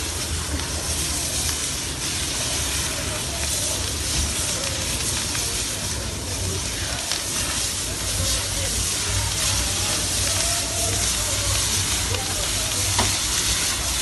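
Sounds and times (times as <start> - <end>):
flames hissing and crackling: 0.0 - 14.0.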